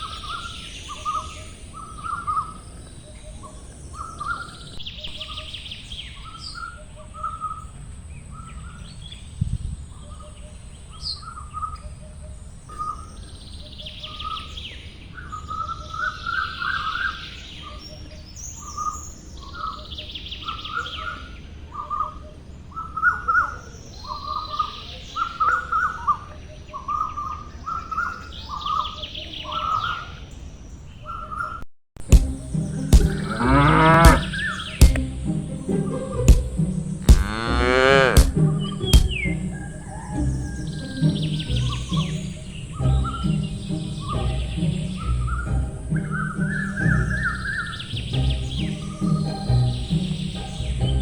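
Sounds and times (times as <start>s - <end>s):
birds chirping: 0.0s - 51.0s.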